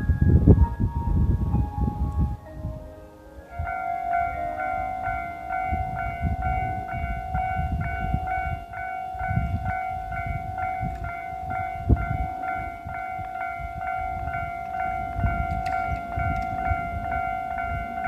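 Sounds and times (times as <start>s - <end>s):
level crossing bell ringing: 2.9s - 18.0s.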